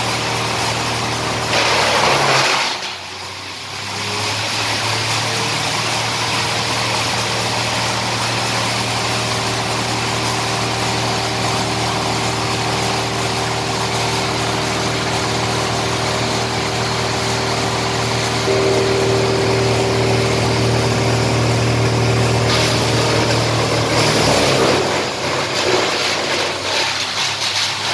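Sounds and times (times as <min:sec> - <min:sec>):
wood crusher machine running: 0:00.0 - 0:27.9.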